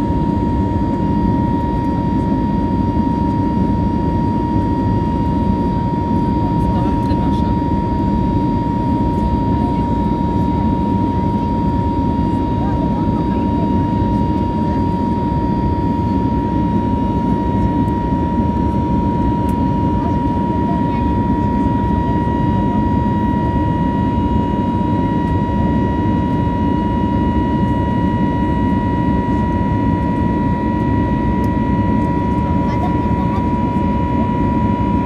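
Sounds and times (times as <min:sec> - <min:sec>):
high engine whine: 0:00.0 - 0:35.0
jet engine roar: 0:00.0 - 0:35.0.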